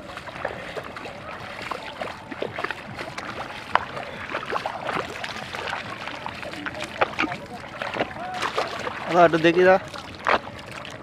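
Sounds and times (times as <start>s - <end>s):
feet wading through muddy water: 0.0s - 11.0s.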